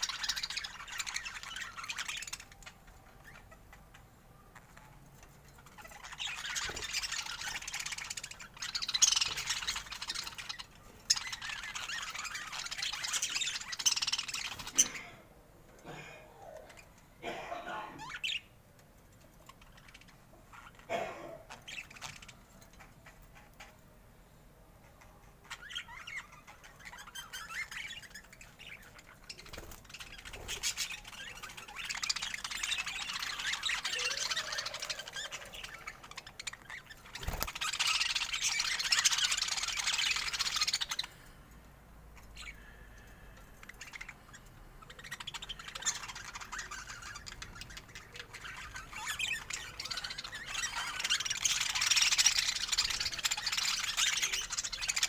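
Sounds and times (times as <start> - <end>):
budgerigars chattering and warbling: 0.0 - 15.3, 17.7 - 18.6, 19.4 - 23.8, 24.8 - 41.2, 42.2 - 55.0.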